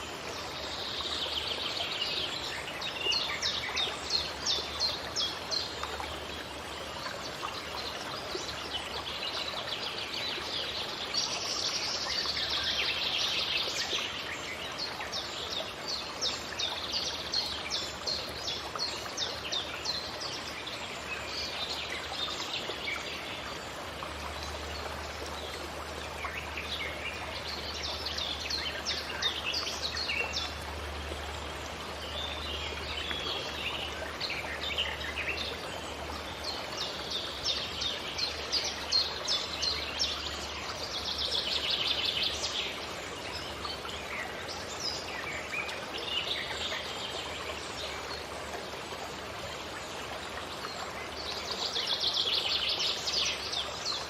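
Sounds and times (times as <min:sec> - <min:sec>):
forest birds singing and chirping: 0:00.0 - 0:48.6, 0:49.7 - 0:54.0.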